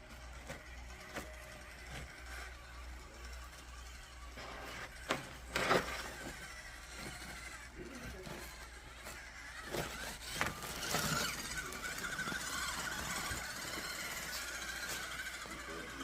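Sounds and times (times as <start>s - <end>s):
electric motor whir: 0.0s - 16.0s.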